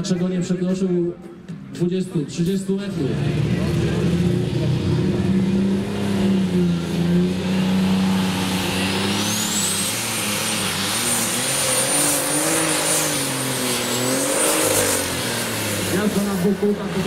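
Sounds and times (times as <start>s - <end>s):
tractor engine under full load: 2.7s - 17.0s.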